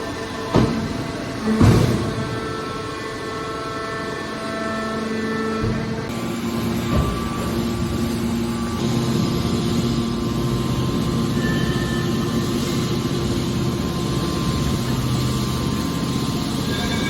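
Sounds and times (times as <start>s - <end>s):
hydraulic baler drone: 0.0s - 17.0s.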